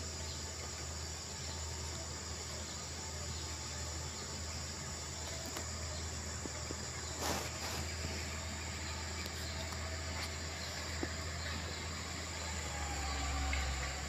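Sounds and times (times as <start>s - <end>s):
distant diesel engine drone: 0.0s - 14.0s
high insect buzz: 0.0s - 14.0s.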